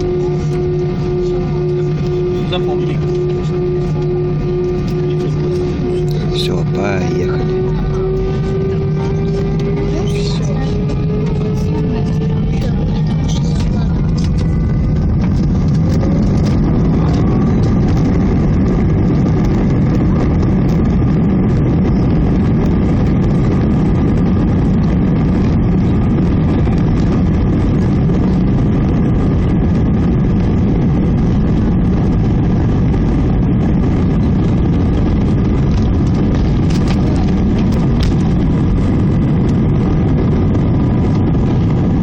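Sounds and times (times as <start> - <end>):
jet engines low rumble: 0.0 - 42.0.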